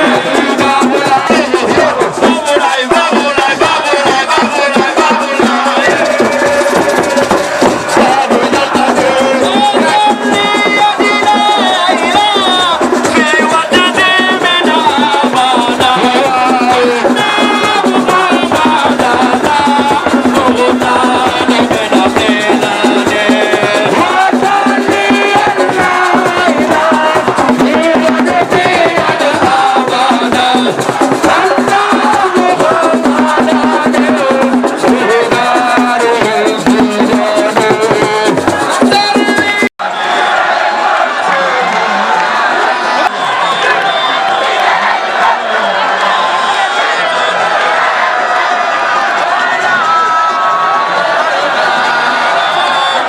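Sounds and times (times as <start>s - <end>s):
fast percussion with shakers and drums: 0.0s - 53.0s
several voices singing: 0.0s - 53.0s.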